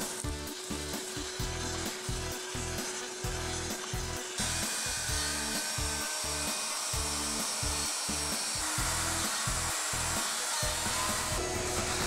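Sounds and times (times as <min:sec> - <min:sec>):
background music with low beat: 0:00.0 - 0:12.0
router cutting wood: 0:00.0 - 0:12.0.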